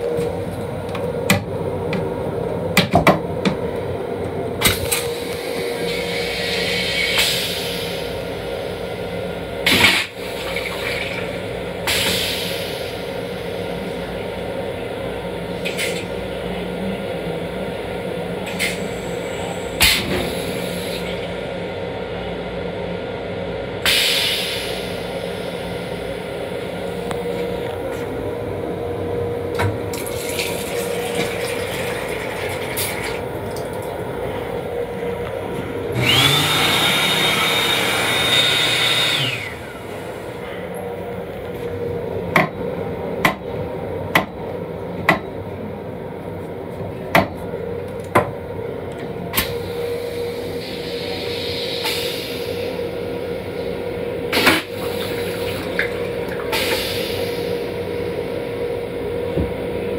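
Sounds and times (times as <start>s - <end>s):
toilet flushing with high whine: 0.0s - 46.3s, 48.4s - 59.9s
train hum: 0.0s - 59.9s.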